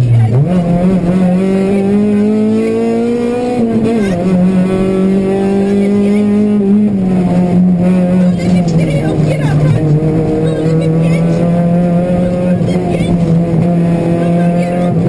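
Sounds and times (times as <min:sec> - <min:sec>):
car engine revving from inside cabin: 0:00.0 - 0:15.0.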